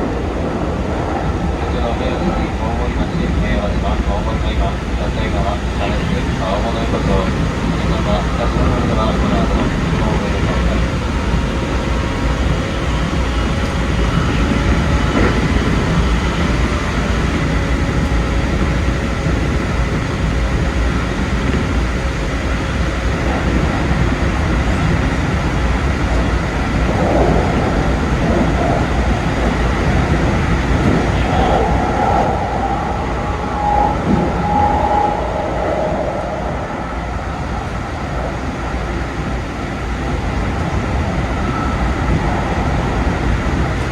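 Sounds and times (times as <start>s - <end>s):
electric train running: 0.0s - 43.9s.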